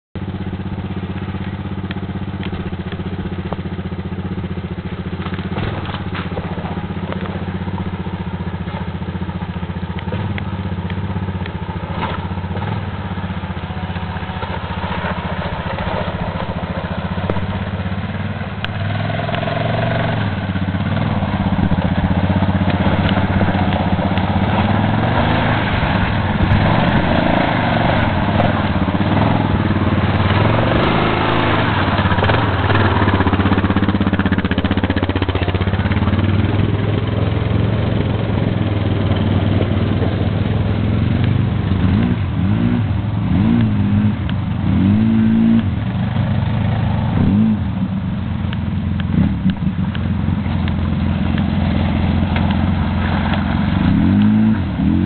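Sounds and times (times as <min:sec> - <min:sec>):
atv engines running: 0:00.1 - 0:55.0.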